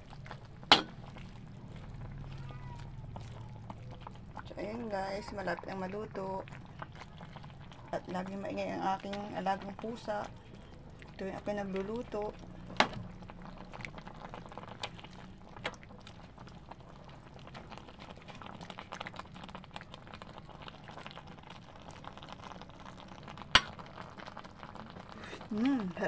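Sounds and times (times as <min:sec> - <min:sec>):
broth bubbling at a simmer: 0:00.0 - 0:26.0
low steady hum: 0:00.0 - 0:26.0.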